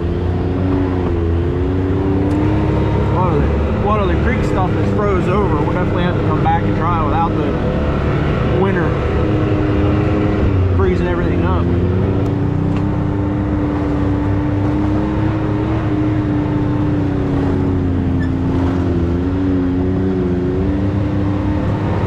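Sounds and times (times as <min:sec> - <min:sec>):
utility vehicle engine running: 0:00.0 - 0:22.0.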